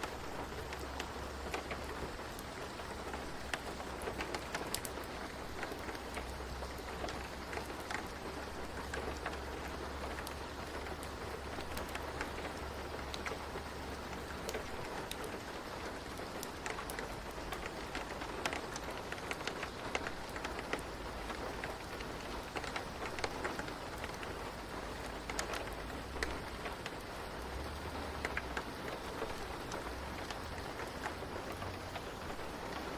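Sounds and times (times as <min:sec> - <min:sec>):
rain hissing: 0:00.0 - 0:32.9
raindrops ticking on a surface: 0:00.0 - 0:32.9.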